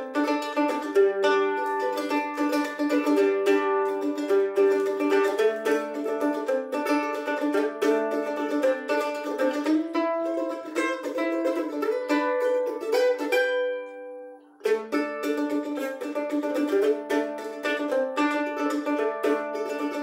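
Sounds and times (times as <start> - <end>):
mandolin picking: 0.0 - 20.0.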